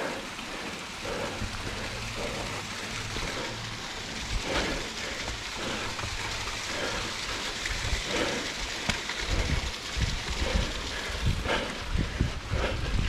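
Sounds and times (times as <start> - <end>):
small waterfall splashing on rocks: 0.0 - 12.0.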